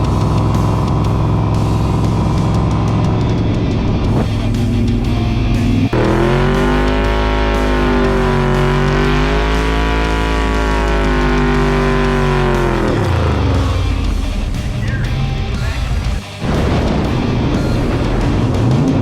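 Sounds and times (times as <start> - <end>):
car engine running: 0.0 - 19.0
guitar music: 0.0 - 19.0.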